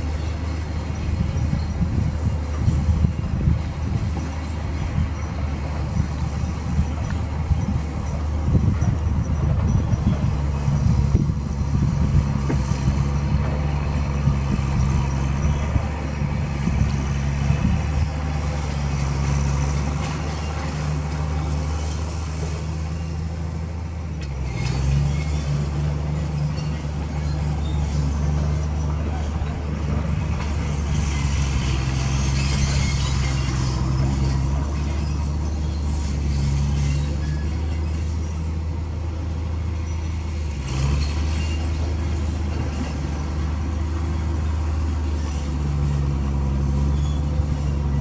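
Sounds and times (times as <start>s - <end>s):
heavy vehicle engine running: 0.0s - 48.0s.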